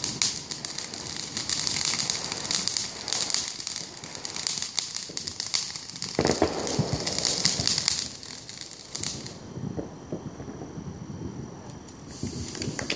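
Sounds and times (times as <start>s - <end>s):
fireworks crackling: 0.0s - 12.9s.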